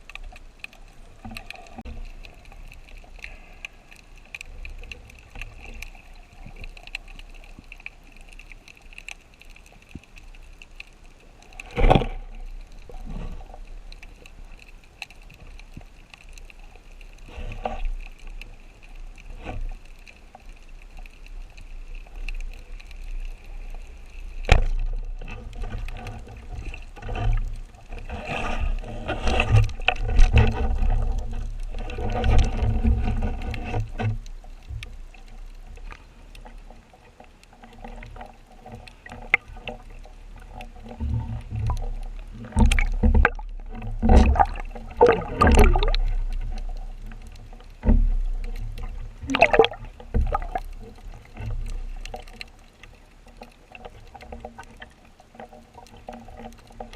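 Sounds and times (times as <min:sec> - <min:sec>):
water sloshing and bubbling: 0:00.0 - 0:56.9.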